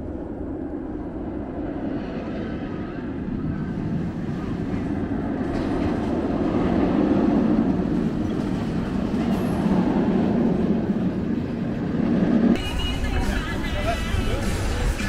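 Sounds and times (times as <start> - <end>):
roller coaster wheels rumbling: 0.0 - 15.0.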